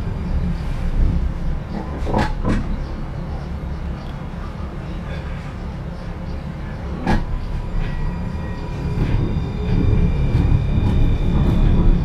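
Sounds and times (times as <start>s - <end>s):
tram running rumble: 0.0s - 12.0s.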